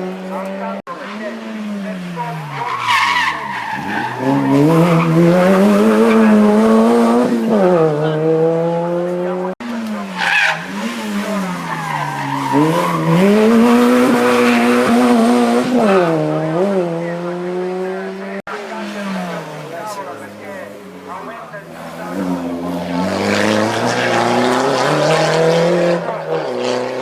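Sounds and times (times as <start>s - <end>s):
race car engine revving: 0.0s - 27.0s.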